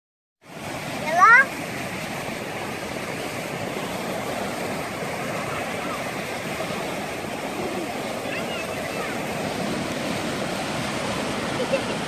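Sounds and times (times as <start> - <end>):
sea waves breaking on shore: 0.4 - 12.0.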